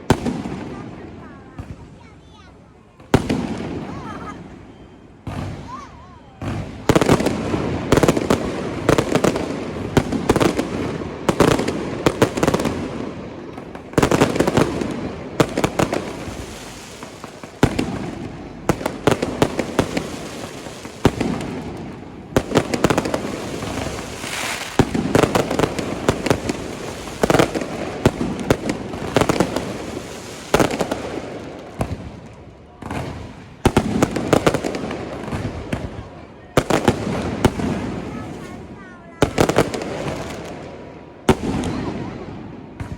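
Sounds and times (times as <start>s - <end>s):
fireworks bursting: 0.0s - 42.9s.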